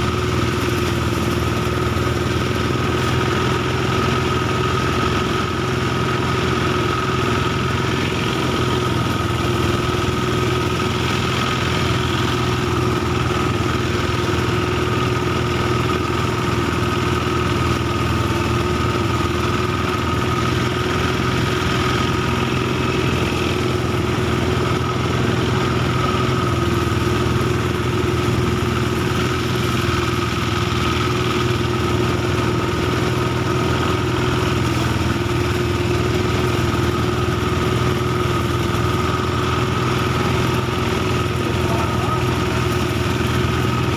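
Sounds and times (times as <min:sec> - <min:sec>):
thresher engine drone: 0:00.0 - 0:43.9.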